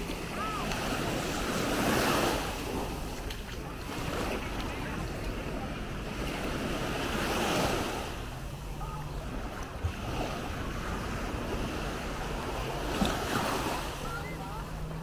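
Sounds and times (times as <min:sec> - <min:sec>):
wind rumbling on microphone: 0:00.0 - 0:14.2
small waves lapping on shore: 0:00.0 - 0:15.0.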